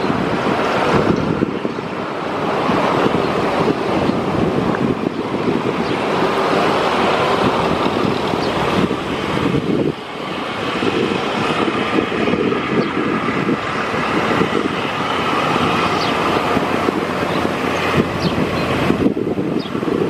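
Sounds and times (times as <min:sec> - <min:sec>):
jet engines roaring: 0:00.0 - 0:20.0
wind rumble on microphone: 0:00.0 - 0:20.0.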